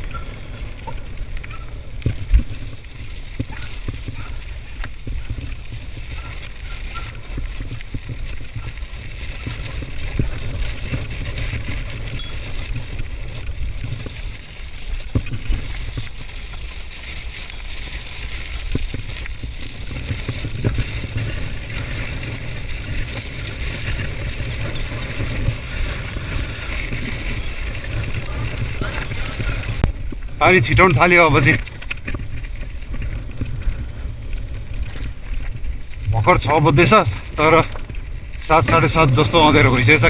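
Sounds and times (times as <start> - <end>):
rain: 0.0 - 40.0
wind rumble on microphone: 0.0 - 40.0.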